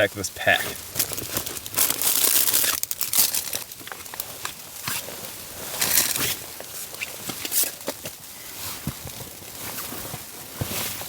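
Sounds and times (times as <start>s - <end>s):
nylon sacks rustling and crinkling: 0.0s - 11.0s.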